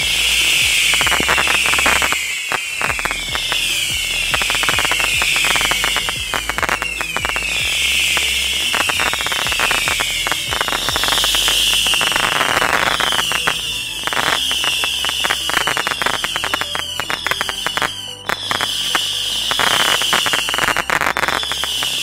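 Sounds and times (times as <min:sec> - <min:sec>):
falling firework whistles: 0:00.0 - 0:22.0
firework pops and crackling: 0:00.0 - 0:22.0.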